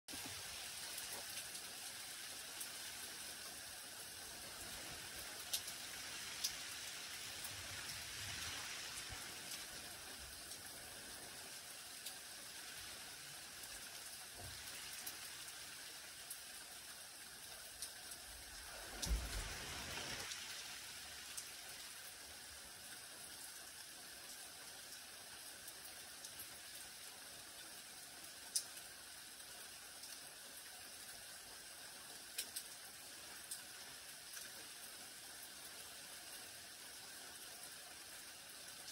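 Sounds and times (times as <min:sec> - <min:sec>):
light rain on leaves and soil: 0:00.1 - 0:38.9.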